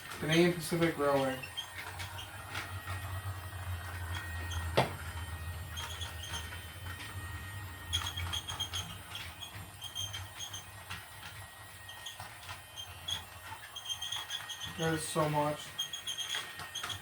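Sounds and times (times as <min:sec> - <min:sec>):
toy train humming: 0:00.0 - 0:17.0.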